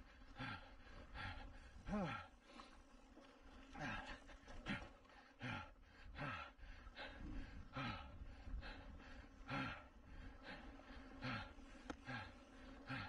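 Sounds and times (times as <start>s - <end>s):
person panting hard: 0.0s - 2.9s, 3.7s - 13.0s.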